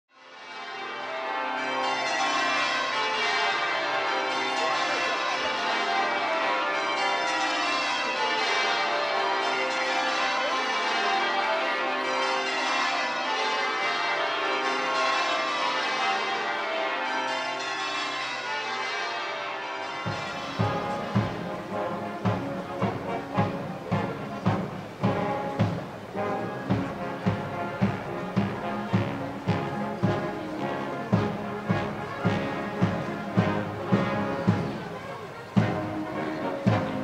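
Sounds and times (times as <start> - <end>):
church bells ringing: 0.2 - 37.0.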